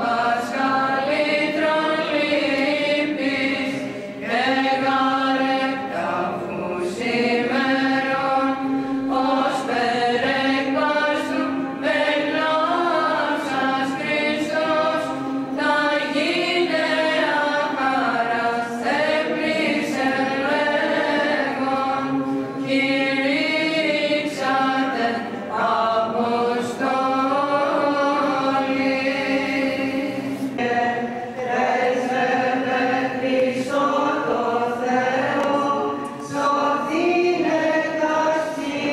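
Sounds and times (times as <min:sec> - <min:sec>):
women chanting a hymn: 0:00.0 - 0:38.9.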